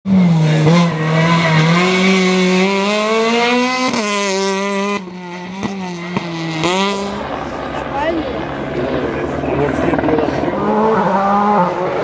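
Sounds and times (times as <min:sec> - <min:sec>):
rally car engine accelerating: 0:00.1 - 0:12.0.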